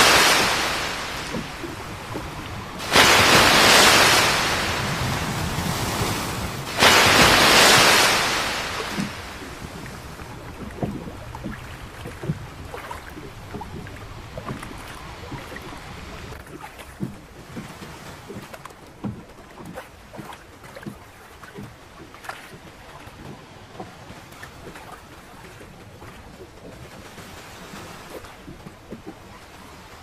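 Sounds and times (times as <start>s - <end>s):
water splashing against boat hull: 0.0s - 30.0s.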